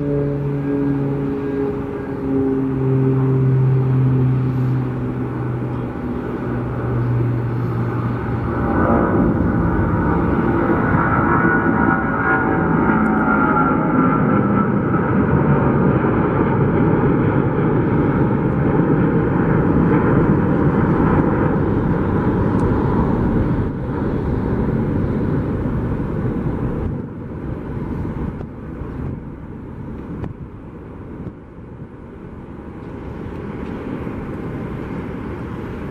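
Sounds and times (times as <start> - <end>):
jet engines roaring: 0.0 - 35.9.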